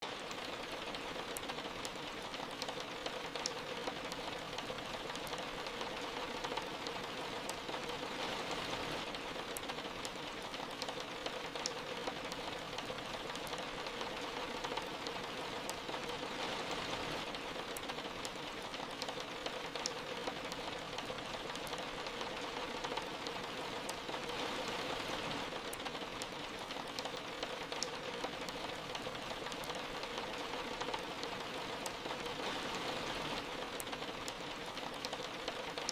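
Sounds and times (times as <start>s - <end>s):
sharp rain ticks: 0.0s - 35.9s
soft rain falling: 0.0s - 35.9s.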